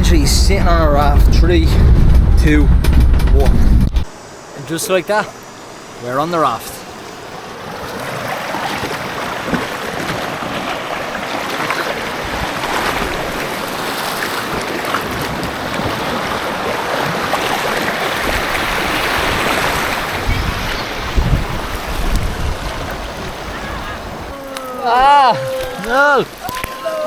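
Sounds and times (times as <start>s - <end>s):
wind on microphone: 0.0s - 4.1s, 8.6s - 27.0s
river water rushing: 4.0s - 27.0s.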